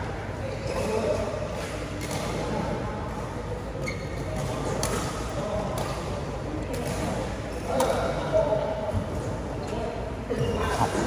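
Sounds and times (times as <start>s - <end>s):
large hall background noise: 0.0s - 11.0s.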